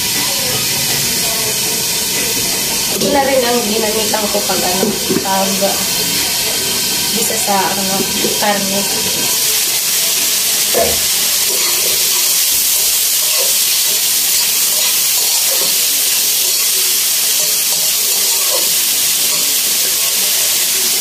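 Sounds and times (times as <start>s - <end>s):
meat sizzling in a wok: 0.0s - 21.0s
spatula stirring in pan: 0.0s - 21.0s.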